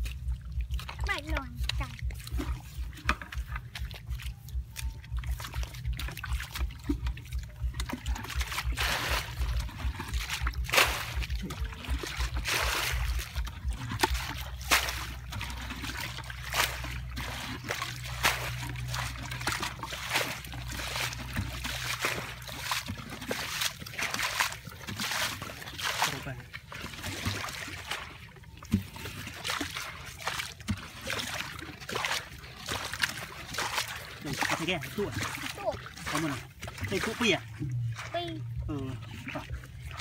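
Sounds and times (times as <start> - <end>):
water sloshing and splashing: 0.0 - 40.0.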